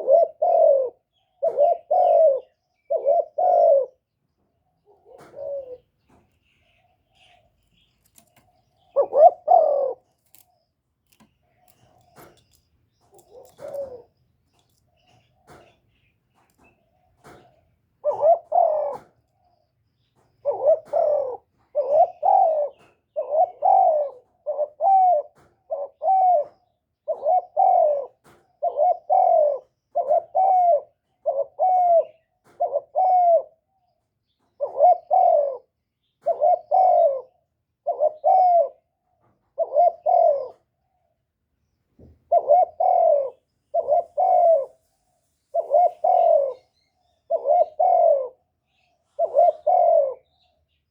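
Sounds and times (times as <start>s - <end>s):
dove cooing: 0.0s - 4.2s, 4.8s - 10.5s, 11.5s - 16.0s, 17.2s - 19.3s, 20.4s - 33.9s, 34.5s - 40.8s, 42.2s - 44.9s, 45.5s - 50.5s.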